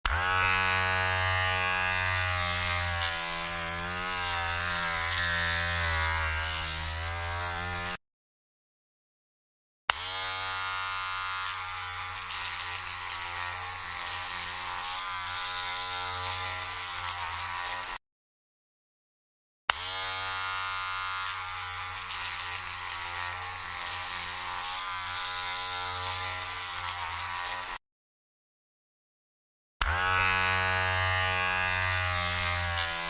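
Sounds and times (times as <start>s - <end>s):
electric hair trimmer buzzing: 0.1s - 8.0s, 9.9s - 18.0s, 19.7s - 27.8s, 29.8s - 33.0s.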